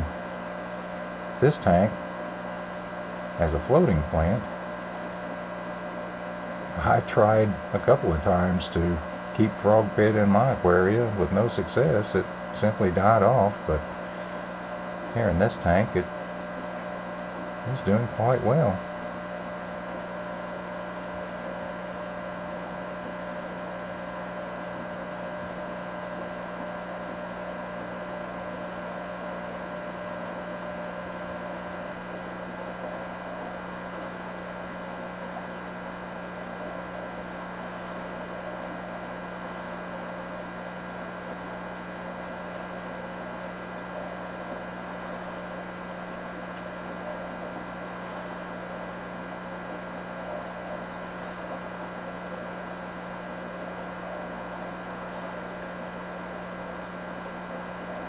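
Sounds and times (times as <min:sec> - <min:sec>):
aquarium equipment humming: 0:00.0 - 0:58.0.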